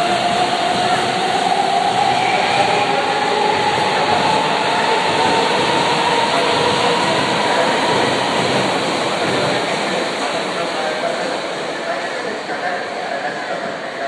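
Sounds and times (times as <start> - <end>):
train wheels rolling on rails: 0.0 - 12.4.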